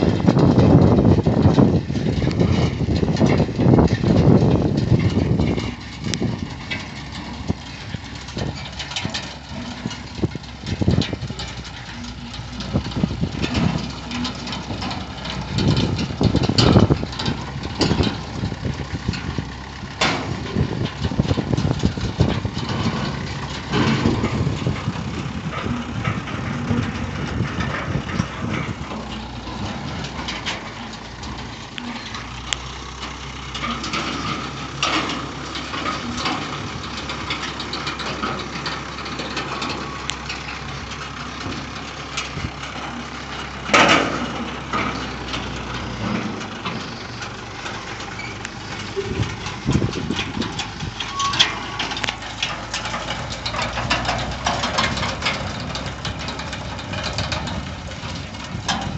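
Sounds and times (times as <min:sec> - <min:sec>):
bale elevator clanking: 0:00.0 - 0:58.9
truck engine running: 0:00.0 - 0:58.9.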